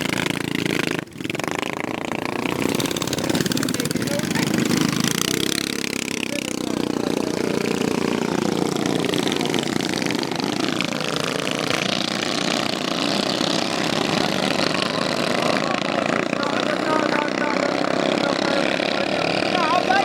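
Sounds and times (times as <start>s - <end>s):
minibike engine revving: 0.0s - 20.0s.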